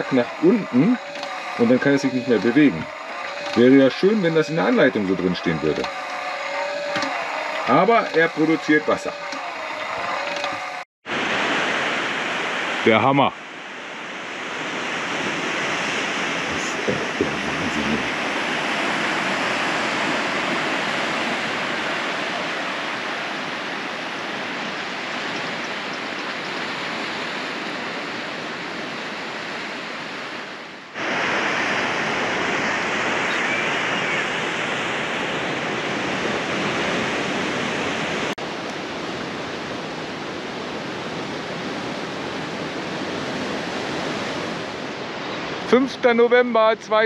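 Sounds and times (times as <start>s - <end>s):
surf washing over rocks: 0.0s - 47.0s.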